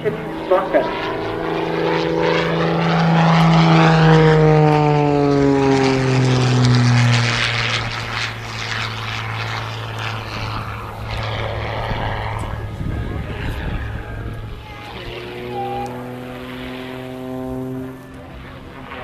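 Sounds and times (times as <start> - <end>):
propeller airplane engine drone: 0.0 - 19.0.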